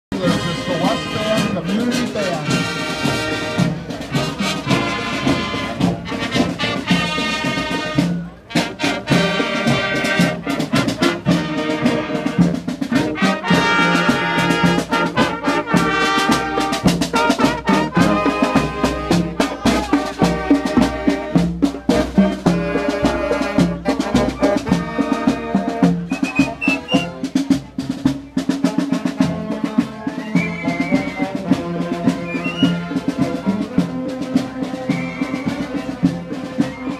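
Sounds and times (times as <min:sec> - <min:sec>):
marching band playing: 0:00.1 - 0:36.9.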